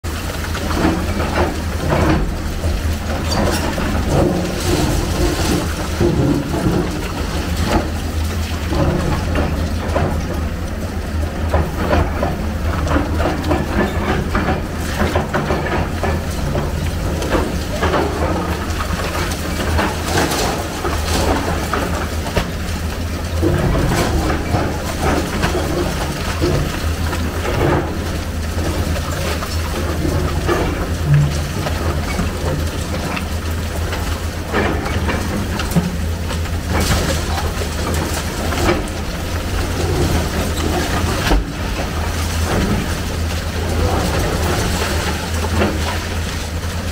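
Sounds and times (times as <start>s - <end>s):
excavator diesel engine running: 0.0s - 46.9s
concrete cracking and debris falling: 0.1s - 46.9s.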